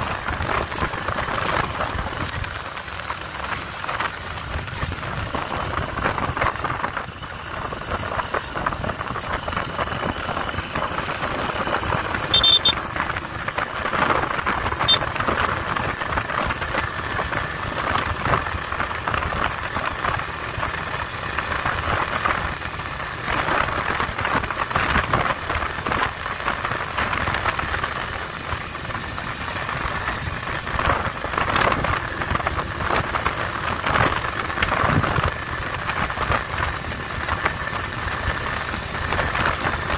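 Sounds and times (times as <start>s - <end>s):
motorcycle engine: 0.0s - 39.9s
wind rush on microphone: 3.6s - 39.9s.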